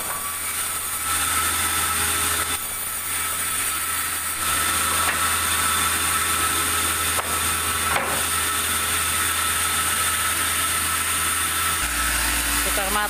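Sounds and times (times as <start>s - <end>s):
sawmill machine hum and whine: 0.0s - 13.0s.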